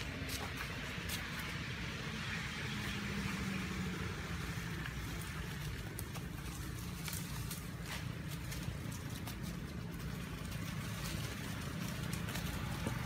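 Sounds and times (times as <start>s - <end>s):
motor engine low rumble: 0.0s - 13.0s.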